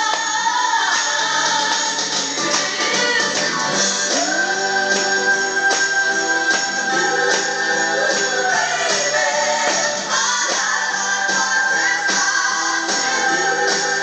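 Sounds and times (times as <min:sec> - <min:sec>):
jingling percussion: 0:00.0 - 0:14.0
upbeat children's song: 0:00.0 - 0:14.0.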